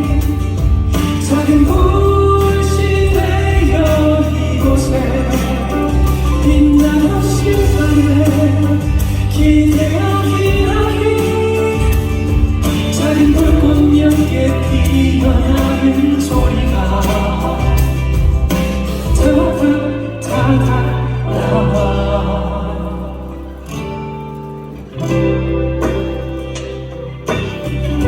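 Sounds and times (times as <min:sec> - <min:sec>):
voices singing together: 0:00.0 - 0:24.0
band accompaniment: 0:00.0 - 0:28.0.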